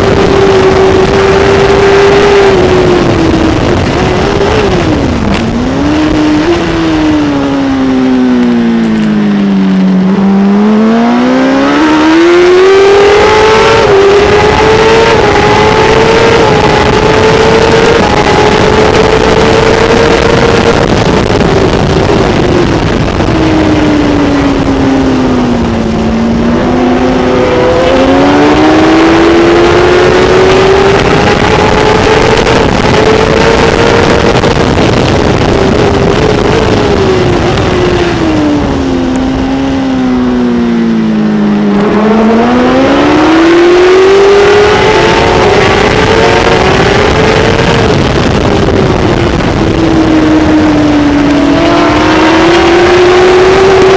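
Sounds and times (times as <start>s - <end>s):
motorcycle engine revving high: 0.0s - 53.9s
wind noise: 0.0s - 53.9s.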